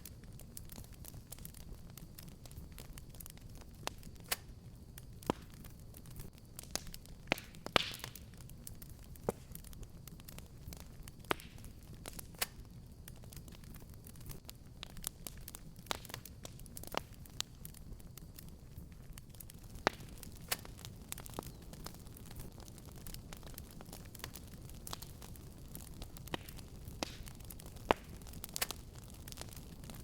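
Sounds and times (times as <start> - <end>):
low rumble of flames: 0.0 - 30.0
wood fire crackling and popping: 0.0 - 30.0.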